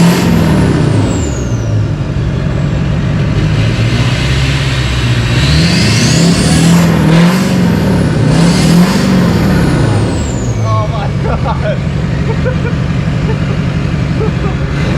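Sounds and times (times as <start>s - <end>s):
diesel truck engine revving: 0.0s - 14.9s.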